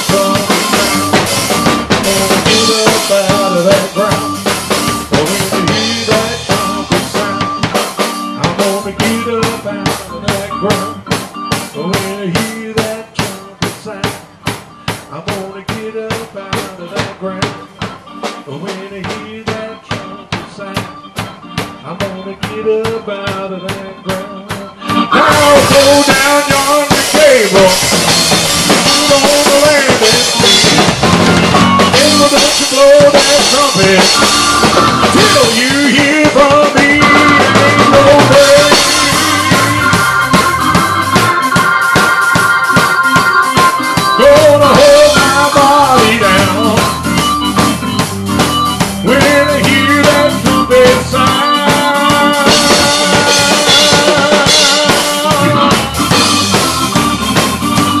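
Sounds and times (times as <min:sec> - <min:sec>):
drum kit steady beat: 0:00.0 - 0:58.0
electric keyboard chords: 0:00.0 - 0:58.0.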